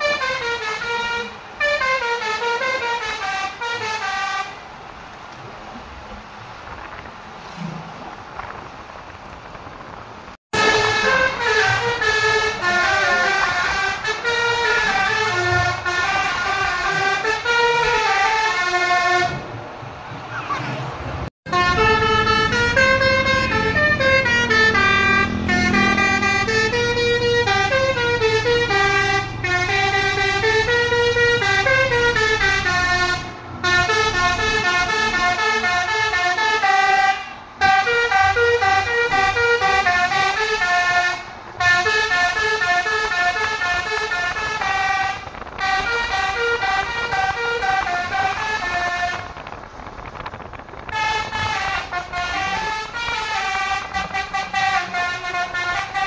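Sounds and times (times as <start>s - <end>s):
multi-tone vehicle horn melody: 0.0s - 4.6s, 10.5s - 19.5s, 21.5s - 49.5s, 50.8s - 56.0s.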